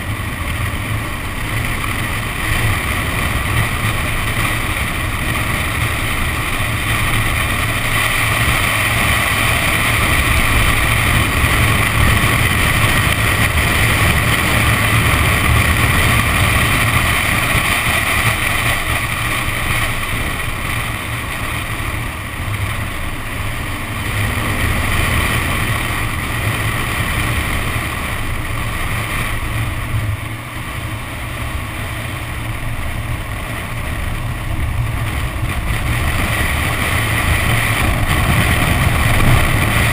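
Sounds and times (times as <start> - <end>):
car engine drone: 0.0 - 39.9
wind on microphone: 0.0 - 39.9.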